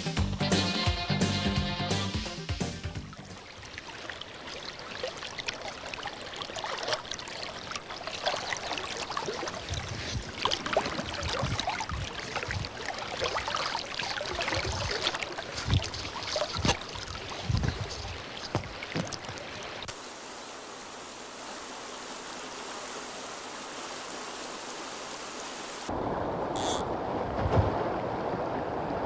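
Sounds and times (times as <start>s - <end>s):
river running over rocks: 3.2s - 29.0s.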